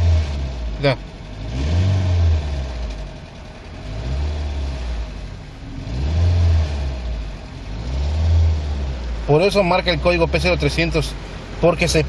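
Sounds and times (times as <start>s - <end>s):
car engine revving with misfire: 0.0s - 12.0s.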